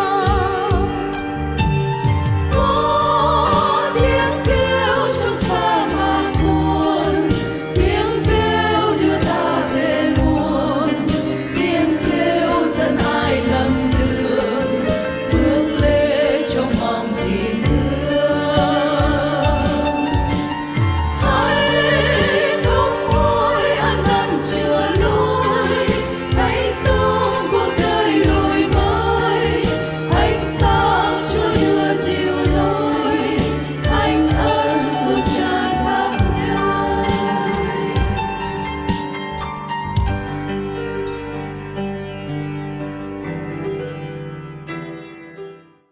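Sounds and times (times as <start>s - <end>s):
choir singing a hymn: 0.0s - 1.2s, 2.4s - 39.1s
instrumental accompaniment with beat: 0.0s - 42.8s.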